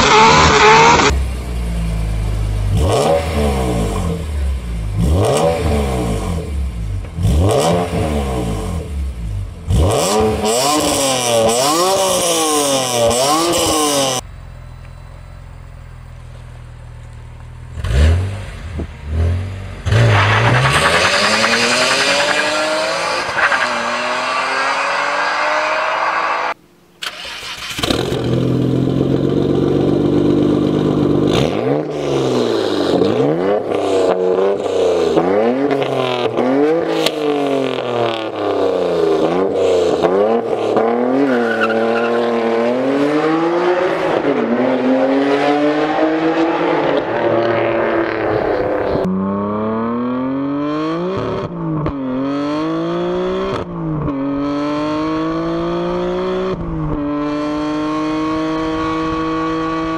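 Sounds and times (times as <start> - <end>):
car accelerating through upshifts: 0.0 - 1.3, 2.7 - 9.0, 9.7 - 14.2, 17.8 - 28.7, 30.4 - 59.9
car engine revving: 0.0 - 14.2, 17.6 - 59.9.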